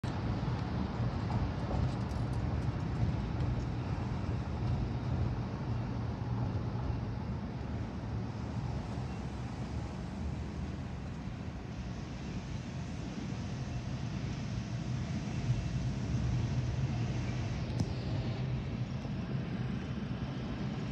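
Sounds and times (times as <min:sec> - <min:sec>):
low traffic rumble inside car: 0:00.0 - 0:20.9.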